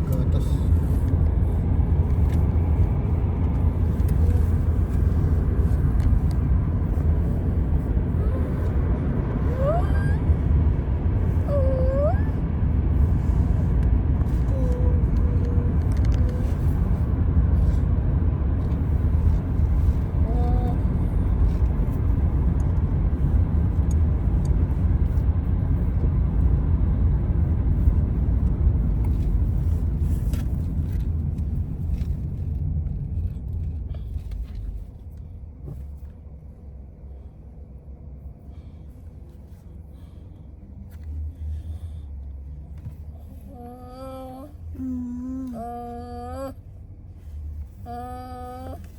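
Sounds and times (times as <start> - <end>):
low engine rumble: 0.0 - 48.9.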